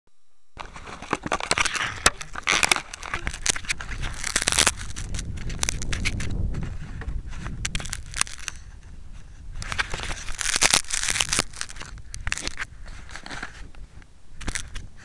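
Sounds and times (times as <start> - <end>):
fingers rubbing and knocking camera: 0.6 - 13.7.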